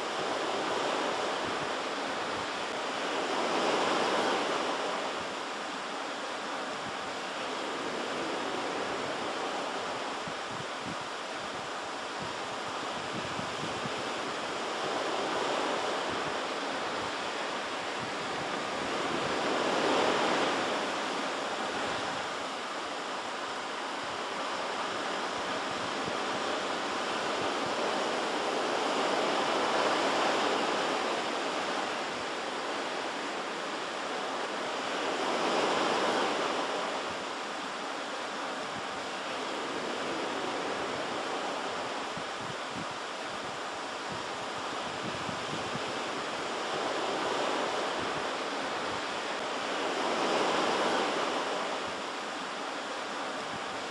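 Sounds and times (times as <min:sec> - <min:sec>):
waves breaking on shore: 0:00.0 - 0:53.9.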